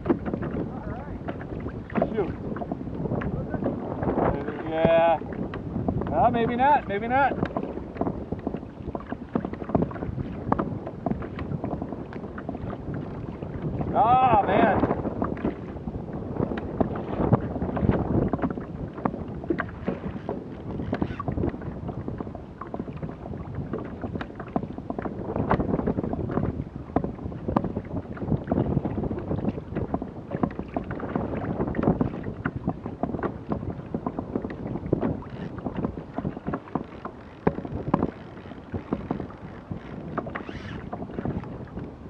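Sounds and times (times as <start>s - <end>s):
water slapping against kayak hull: 0.0s - 42.0s
wind buffeting microphone: 0.0s - 42.0s.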